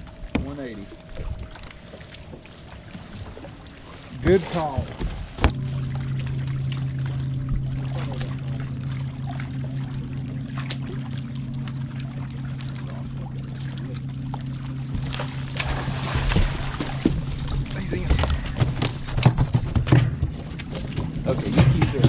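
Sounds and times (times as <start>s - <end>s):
electric trolling motor humming: 0.0s - 19.7s
light water sounds: 0.0s - 22.0s.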